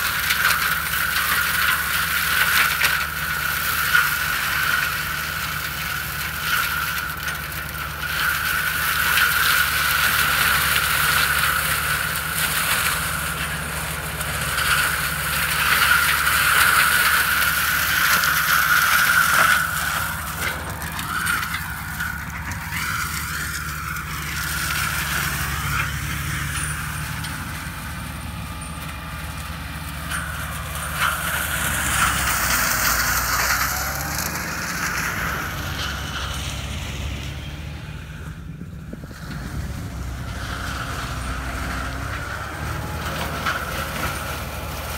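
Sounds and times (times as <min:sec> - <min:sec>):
mulcher rotor whine: 0:00.0 - 0:44.9
tractor engine drone: 0:00.0 - 0:44.9.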